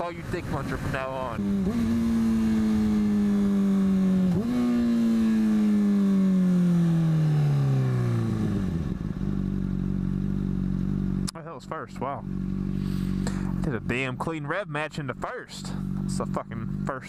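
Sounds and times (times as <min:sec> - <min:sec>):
motorcycle engine decelerating: 0:00.0 - 0:17.0.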